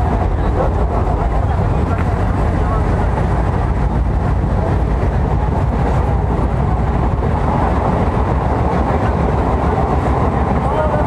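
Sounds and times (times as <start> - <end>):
train rumble from inside coach: 0.0 - 11.0.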